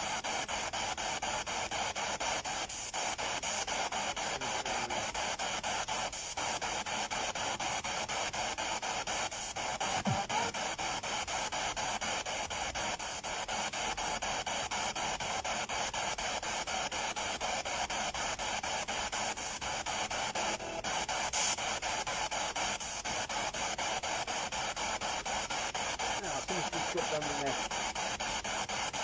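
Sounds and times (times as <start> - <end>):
pulsing radio static: 0.0 - 29.0.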